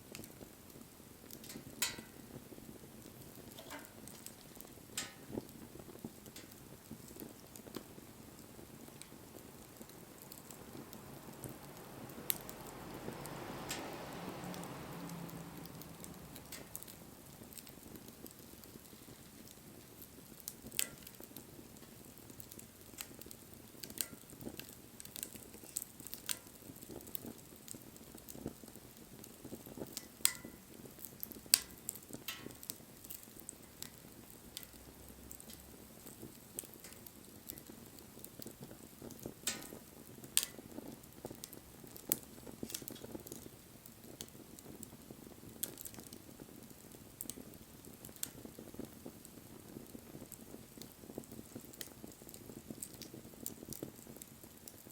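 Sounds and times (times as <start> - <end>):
wood bonfire crackling: 0.0 - 54.9.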